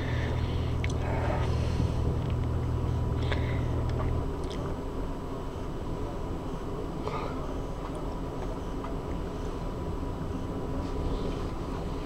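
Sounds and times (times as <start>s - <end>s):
low hum: 0.0s - 12.0s
train car interior rumble: 0.0s - 12.0s.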